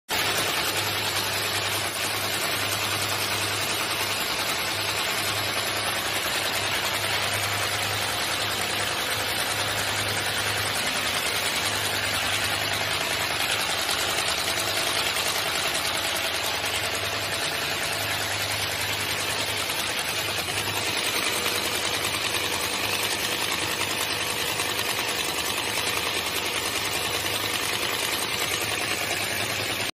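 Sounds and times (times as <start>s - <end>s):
folding machine whirring: 0.2s - 24.5s.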